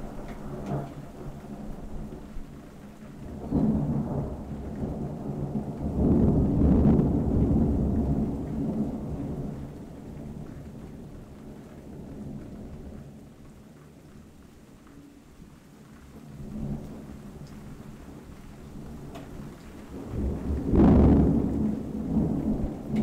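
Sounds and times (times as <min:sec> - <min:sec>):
rolling thunder: 0:00.0 - 0:14.4, 0:16.2 - 0:23.0
rain falling: 0:00.0 - 0:23.0.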